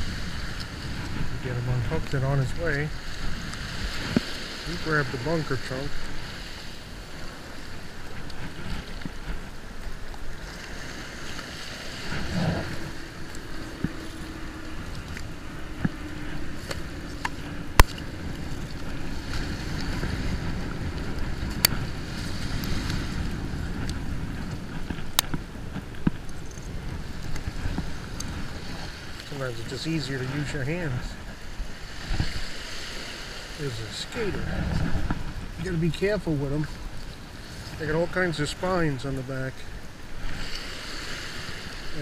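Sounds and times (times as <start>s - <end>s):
wind noise on microphone: 0.0s - 29.5s, 30.1s - 38.2s
small waves washing onto shore: 0.0s - 42.0s.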